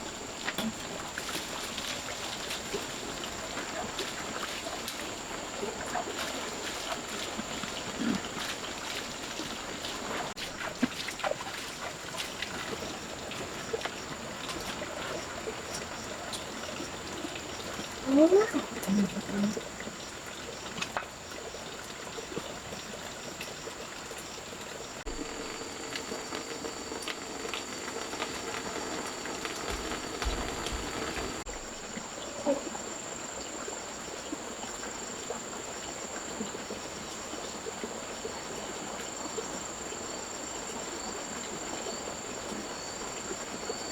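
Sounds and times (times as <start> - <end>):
insects chirring: 0.0 - 43.9.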